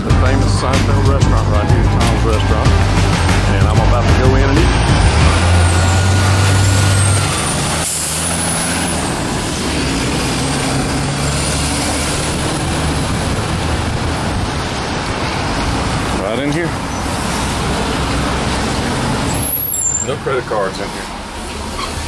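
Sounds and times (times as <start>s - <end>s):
heavy vehicle engine rumble: 0.0s - 22.0s
street traffic: 0.0s - 22.0s.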